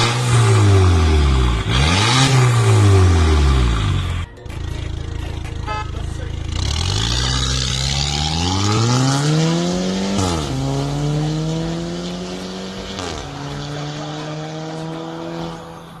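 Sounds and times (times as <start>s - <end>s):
car accelerating through gears: 0.0s - 4.2s, 6.4s - 16.0s.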